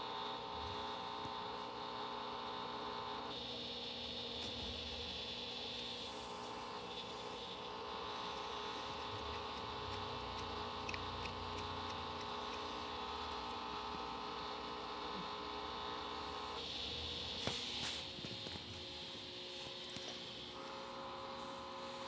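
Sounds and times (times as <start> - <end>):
washing machine humming: 0.0 - 22.0
motor whine: 0.2 - 22.0.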